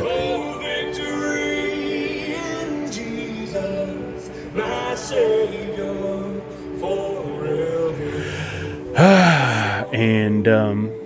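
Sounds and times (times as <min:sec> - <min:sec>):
gospel worship song: 0:00.0 - 0:11.0
voices singing: 0:00.0 - 0:11.0.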